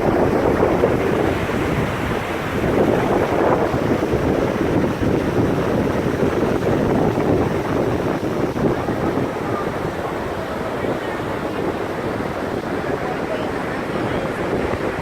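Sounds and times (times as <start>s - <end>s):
storm surf breaking on beach: 0.0s - 15.0s
wind buffeting microphone: 0.0s - 15.0s.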